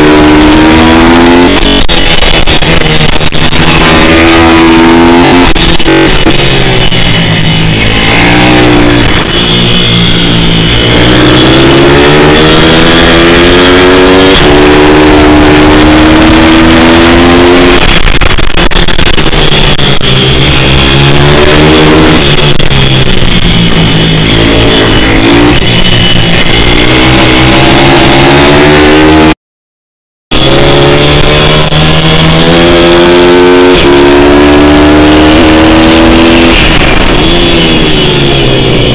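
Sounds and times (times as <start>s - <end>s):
motorbike engine revving: 0.0s - 29.4s, 30.3s - 38.9s.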